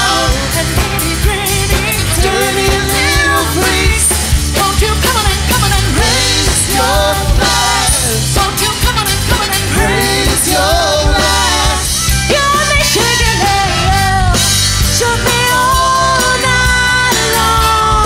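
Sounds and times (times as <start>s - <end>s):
several people singing: 0.0s - 14.1s, 15.2s - 18.0s
live pop-rock band playing: 0.0s - 18.0s.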